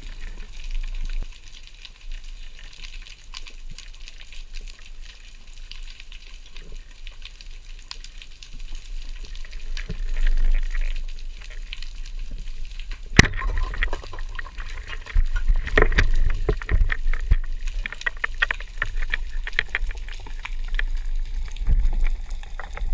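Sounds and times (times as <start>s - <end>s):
crackling clicks: 0.0s - 22.9s
underwater rumble of moving water: 0.0s - 22.9s.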